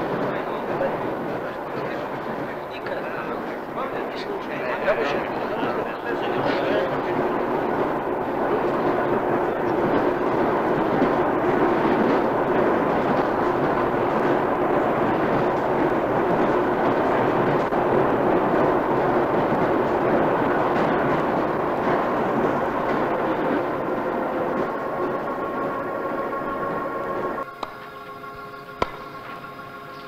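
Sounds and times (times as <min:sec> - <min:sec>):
train rumbling and rattling: 0:00.0 - 0:30.0.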